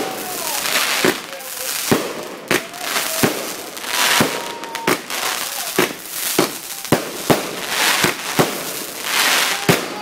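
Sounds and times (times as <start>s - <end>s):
crackling hiss: 0.0s - 10.0s
fireworks bangs: 0.0s - 10.0s.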